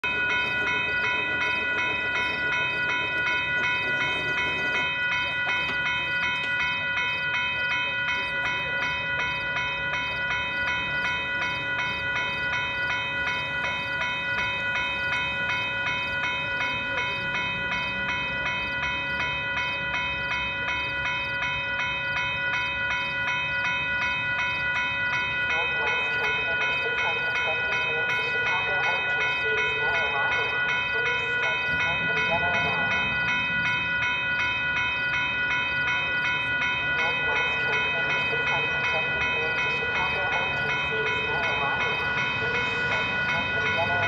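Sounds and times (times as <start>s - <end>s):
crossing warning bells ringing: 0.0s - 44.0s.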